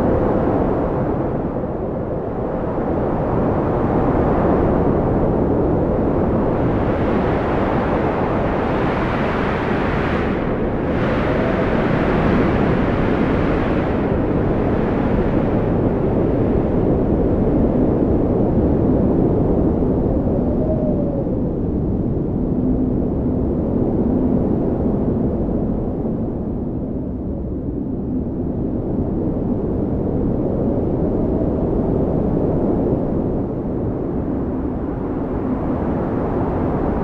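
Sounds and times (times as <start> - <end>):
strong wind rushing: 0.0 - 37.0.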